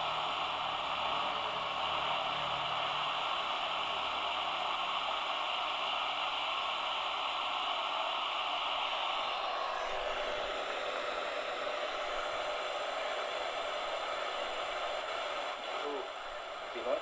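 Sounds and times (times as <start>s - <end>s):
tv static hiss: 0.0s - 17.0s.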